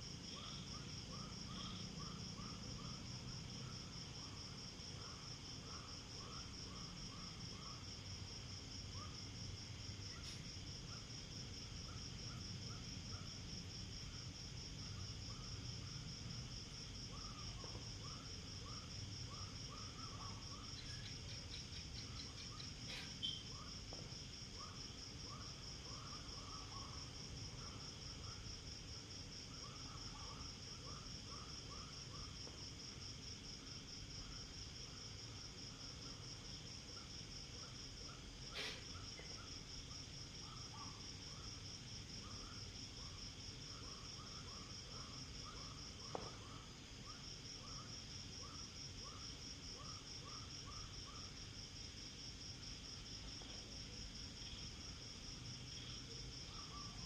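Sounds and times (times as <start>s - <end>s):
insects trilling: 0.2s - 57.0s.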